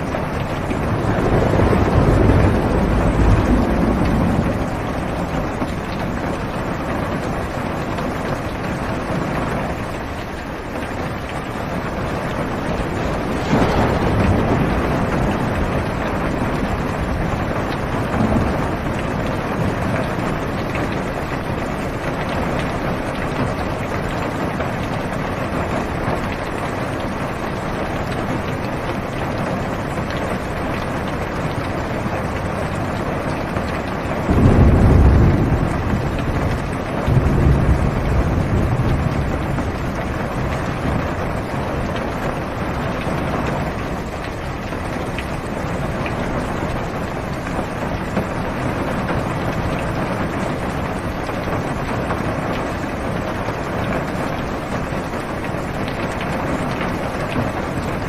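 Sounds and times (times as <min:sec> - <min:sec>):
heavy rain on car roof: 0:00.0 - 0:58.0
low rumbles of thunder: 0:00.0 - 0:58.0.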